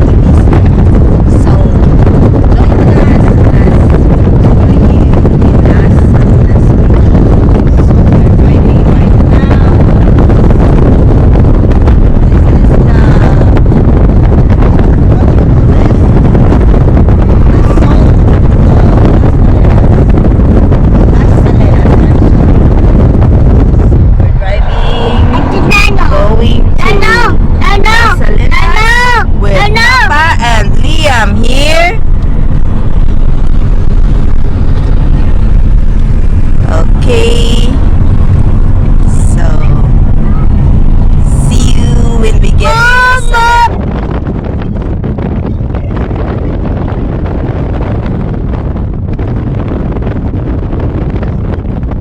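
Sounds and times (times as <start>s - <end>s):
car interior rumble: 0.0s - 52.0s
wind buffeting microphone: 0.0s - 52.0s.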